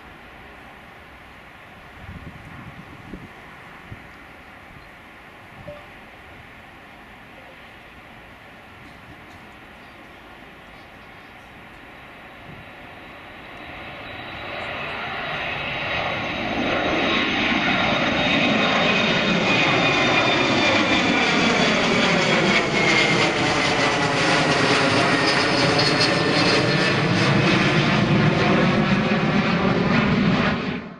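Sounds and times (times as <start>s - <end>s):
jet airliner roaring overhead: 0.0s - 30.9s.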